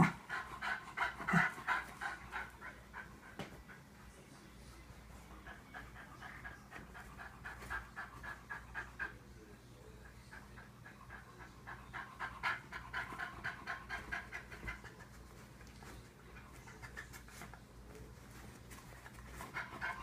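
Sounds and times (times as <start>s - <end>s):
dog panting rapidly: 0.0s - 4.1s, 5.2s - 9.3s, 10.0s - 17.7s, 18.7s - 20.0s.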